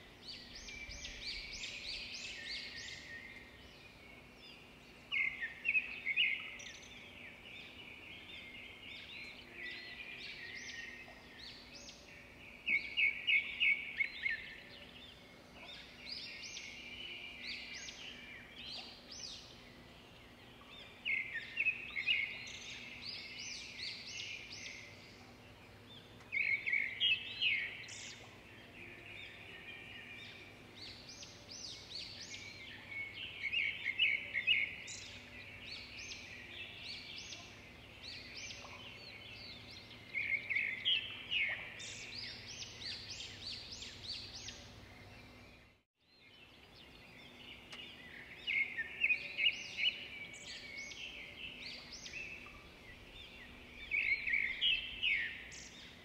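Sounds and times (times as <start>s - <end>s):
birds singing high chirps: 0.0s - 56.0s.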